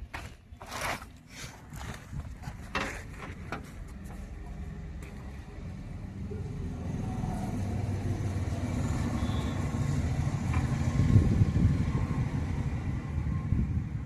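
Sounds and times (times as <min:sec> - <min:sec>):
vehicle engine rumble: 0:01.2 - 0:14.0.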